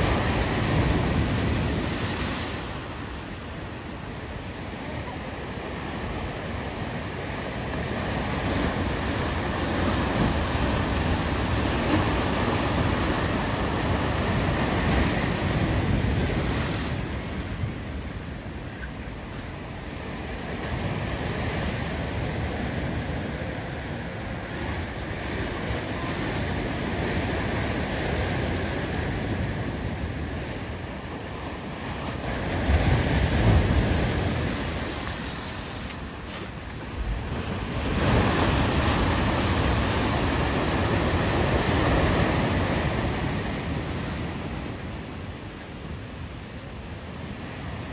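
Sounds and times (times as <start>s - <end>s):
surf breaking on rocky shore: 0.0s - 47.9s.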